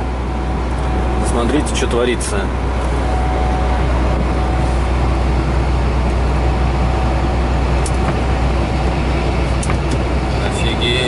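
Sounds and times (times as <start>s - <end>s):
truck engine drone in cab: 0.0s - 11.0s.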